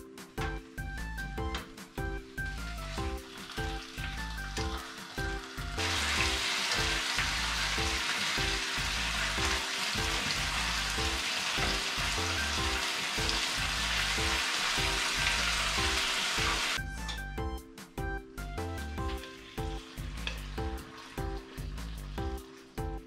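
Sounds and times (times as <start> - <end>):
pork sizzling in a frying pan: 2.2 - 16.8, 19.0 - 23.0.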